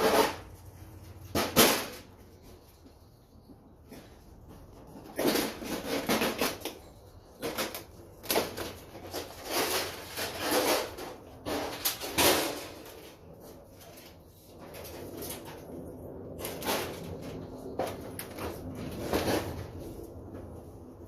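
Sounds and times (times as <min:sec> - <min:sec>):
metal scraping and clattering: 0:00.0 - 0:02.7, 0:03.9 - 0:15.8, 0:16.4 - 0:20.5.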